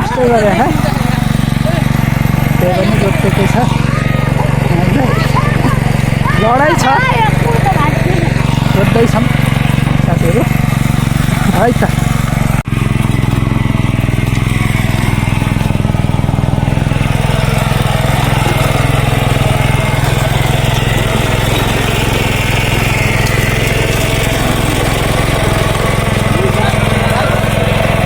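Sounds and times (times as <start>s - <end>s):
power tiller engine running: 0.0s - 28.0s.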